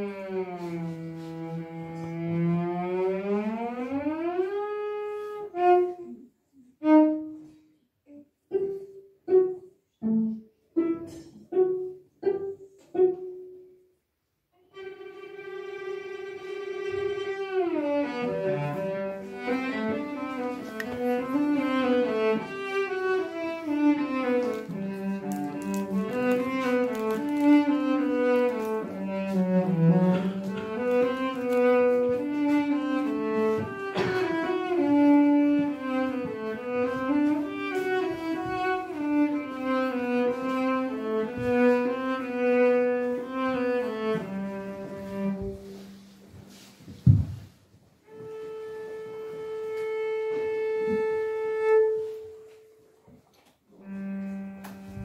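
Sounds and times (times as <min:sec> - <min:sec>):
cello playing a melody: 0:00.0 - 0:55.0.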